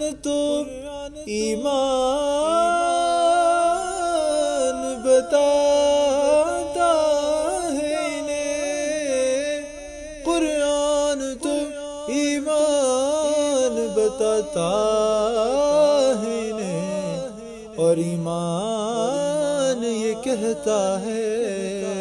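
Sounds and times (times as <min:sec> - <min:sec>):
man singing: 0:00.0 - 0:22.0.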